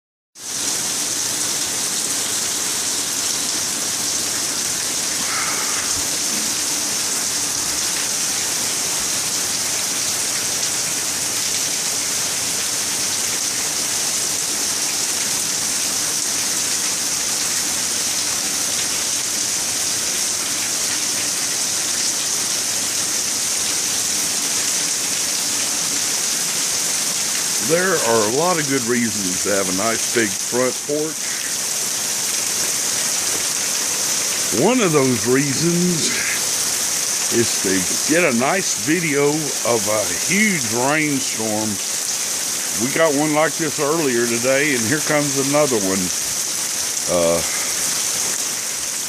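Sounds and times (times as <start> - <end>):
heavy rain pouring: 0.4 - 49.0.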